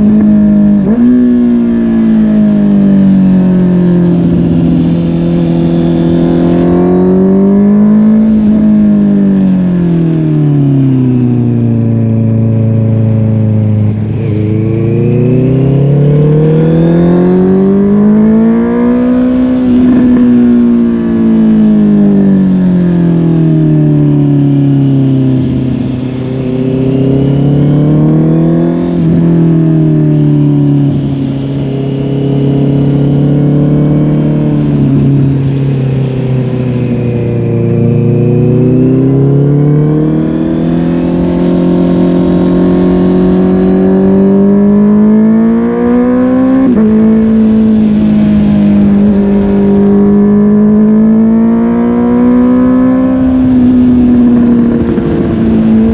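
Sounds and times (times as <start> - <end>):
motorcycle engine under way: 0.0 - 55.9.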